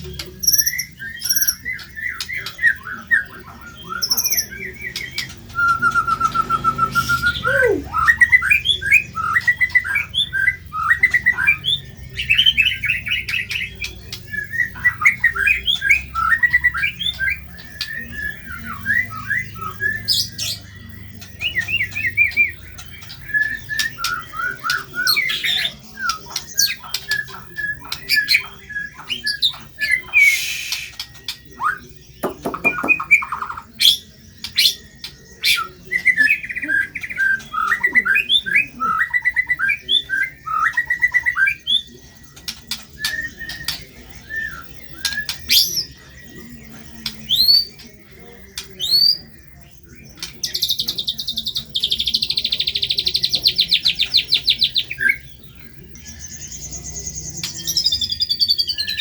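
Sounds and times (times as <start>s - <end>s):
bird singing trills and whistles: 0.0s - 59.0s.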